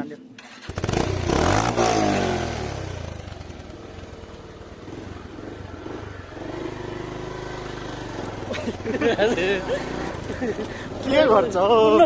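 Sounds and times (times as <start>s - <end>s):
motorcycle engine running: 0.4s - 12.0s.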